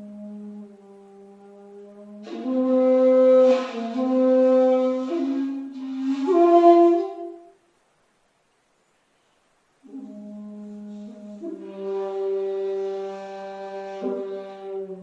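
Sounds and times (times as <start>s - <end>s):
shakuhachi flute playing: 0.0s - 7.7s, 9.8s - 15.0s.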